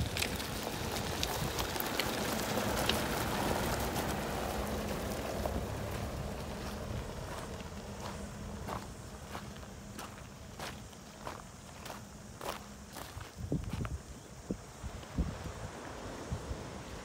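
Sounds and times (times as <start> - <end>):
tyres crunching on gravel: 0.0 - 16.2
engine low rumble: 0.0 - 17.0.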